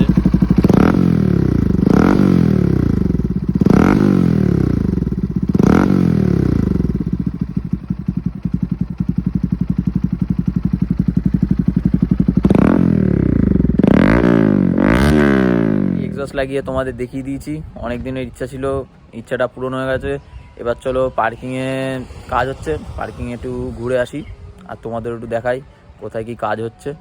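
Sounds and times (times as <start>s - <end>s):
motorcycle engine revving and idling: 0.0s - 27.0s.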